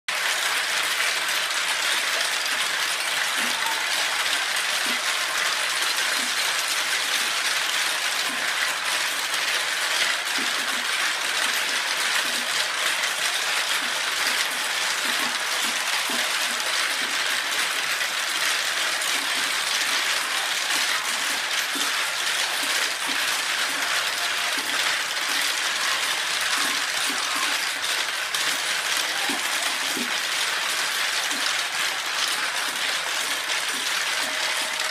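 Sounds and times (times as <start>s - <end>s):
marbles rattling through plastic tubes: 0.1s - 34.9s.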